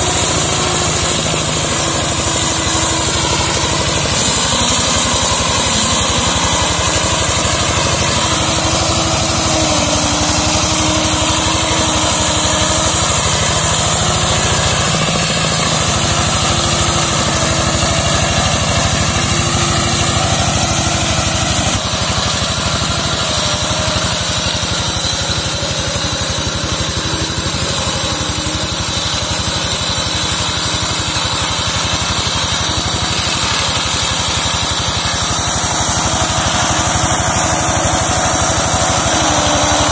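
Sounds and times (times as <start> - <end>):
brush mower engine running: 0.0 - 39.9.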